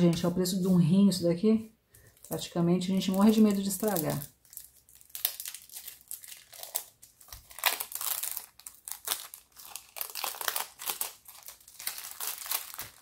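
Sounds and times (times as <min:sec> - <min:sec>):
plastic bag crinkling: 0:02.0 - 0:13.0.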